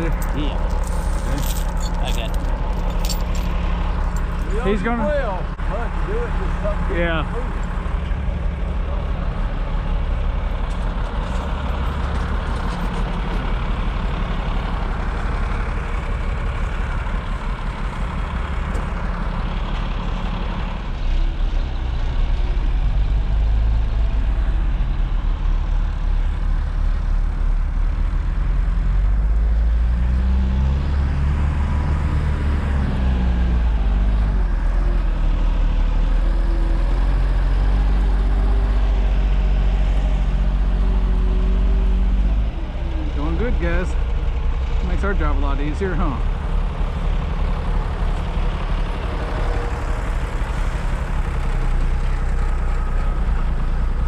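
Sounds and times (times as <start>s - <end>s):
heavy truck engine revving: 0.0s - 54.0s.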